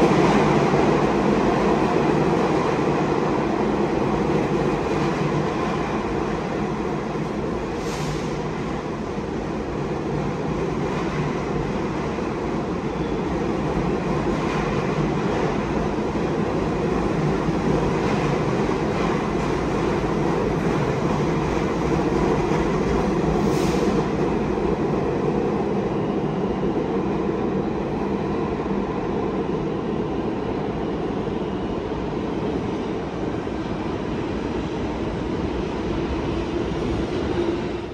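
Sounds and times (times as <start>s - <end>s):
subway train rumbling on rails: 0.0s - 37.9s.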